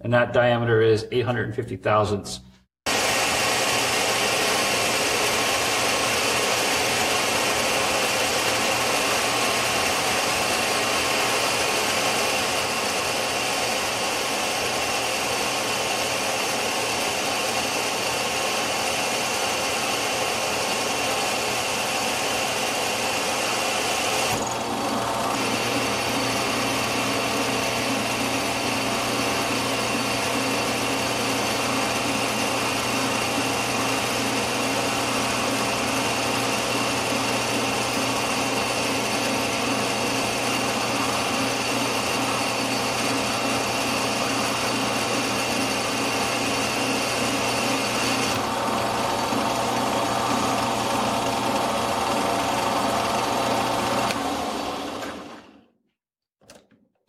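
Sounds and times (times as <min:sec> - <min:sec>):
metal lathe motor whine: 0:02.9 - 0:55.4
lathe tool cutting steel: 0:02.9 - 0:55.5.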